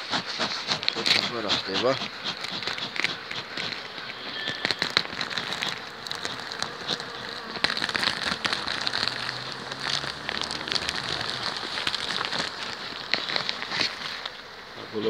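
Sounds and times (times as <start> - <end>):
plastic sheet crinkling: 0.0 - 14.6
bees buzzing: 0.0 - 15.0.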